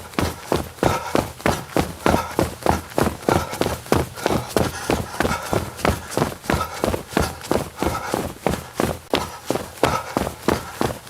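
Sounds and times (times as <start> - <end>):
running footsteps: 0.0 - 11.0.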